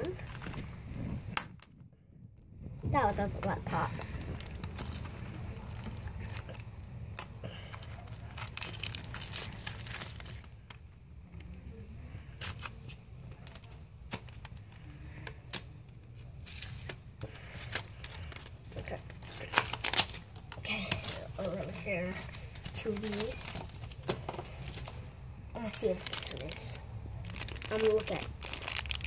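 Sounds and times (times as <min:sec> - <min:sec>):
plastic wrapping crinkling: 0:00.0 - 0:01.8, 0:02.6 - 0:10.9, 0:12.2 - 0:29.0.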